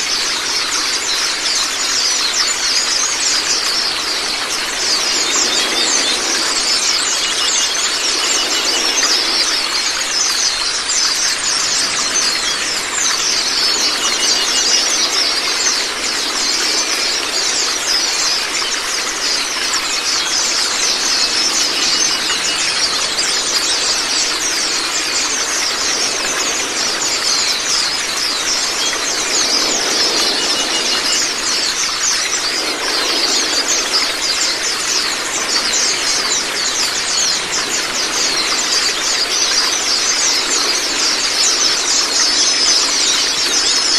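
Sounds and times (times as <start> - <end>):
birds chirping: 0.0 - 43.9
running water hiss: 0.0 - 43.9.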